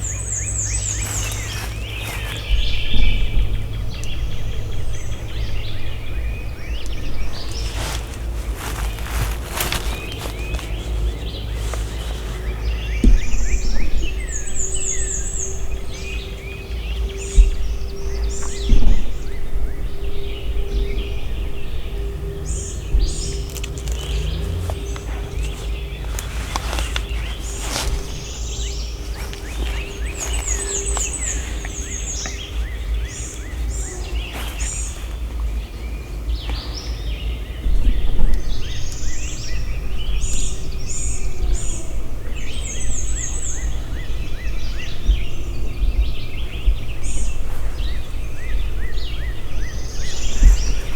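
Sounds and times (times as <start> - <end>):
songbirds singing and chirping: 0.0 - 50.9
steady low rumble: 0.0 - 50.9.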